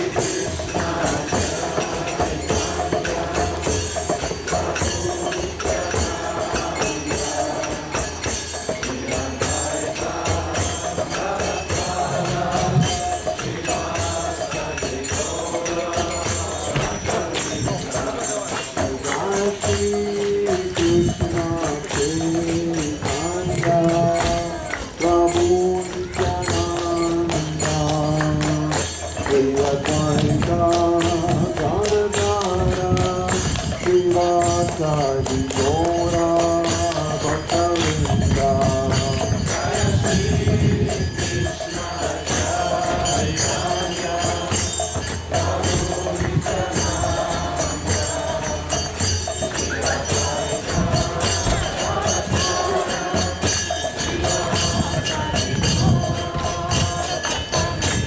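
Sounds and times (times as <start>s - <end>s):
group chanting: 0.0s - 58.0s
hand cymbals jingling: 0.0s - 58.0s.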